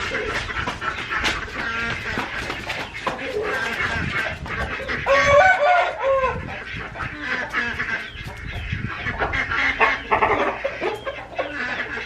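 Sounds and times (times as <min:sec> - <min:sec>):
chickens clucking and squawking: 0:00.0 - 0:12.0.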